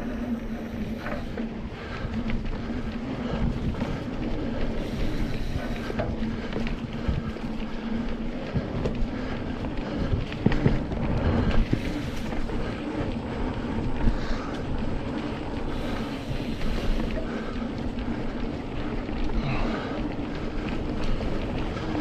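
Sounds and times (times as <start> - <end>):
bike tyres rumbling on dirt: 0.0 - 22.0
wind buffeting microphone: 0.0 - 22.0.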